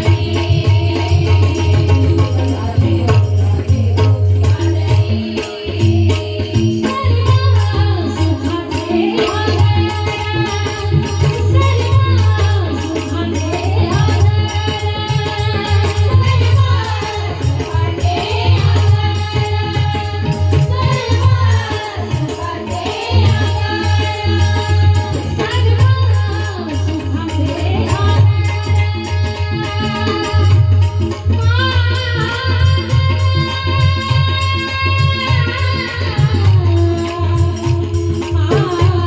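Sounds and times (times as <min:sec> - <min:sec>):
steady hand drumming: 0:00.0 - 0:39.0.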